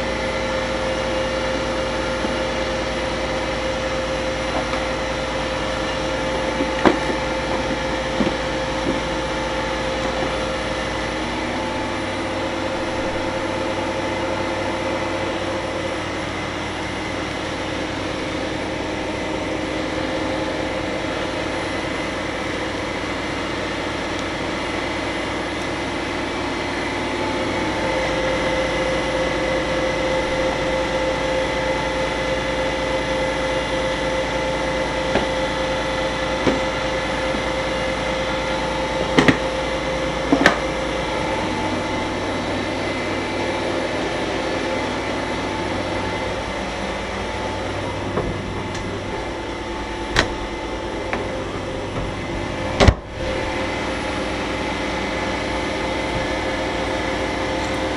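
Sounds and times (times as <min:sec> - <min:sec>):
refrigeration machinery drone: 0:00.0 - 0:57.9.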